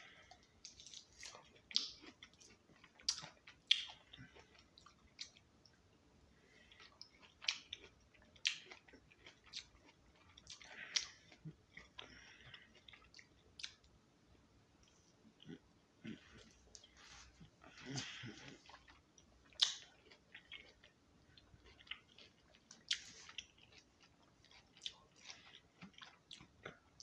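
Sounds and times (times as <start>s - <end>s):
chewing orange slices: 0.0s - 5.8s, 6.5s - 13.9s, 14.8s - 27.0s.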